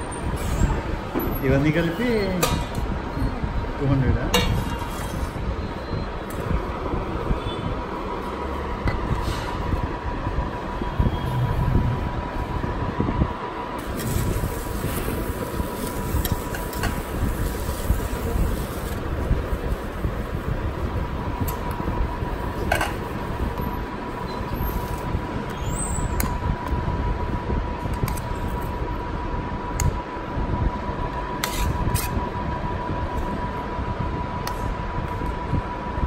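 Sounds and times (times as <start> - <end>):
low rumbling background noise: 0.0 - 36.0
thin steady whine: 0.0 - 36.0.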